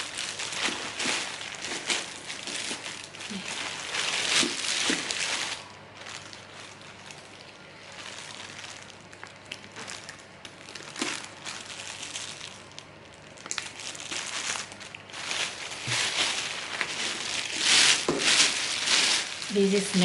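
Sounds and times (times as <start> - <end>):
crinkling of packaging: 0.0 - 20.0.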